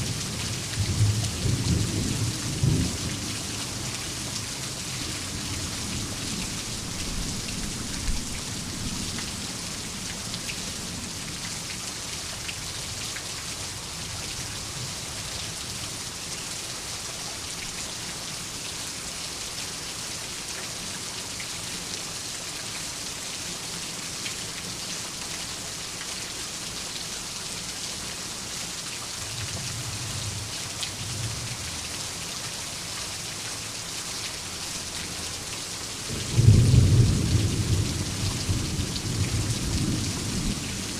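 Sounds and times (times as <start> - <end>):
rain hissing on surfaces: 0.0 - 40.9.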